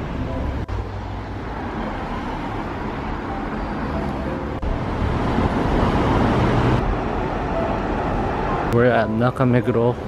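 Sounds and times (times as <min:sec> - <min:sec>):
road rumble of passing cars: 0:00.0 - 0:10.0.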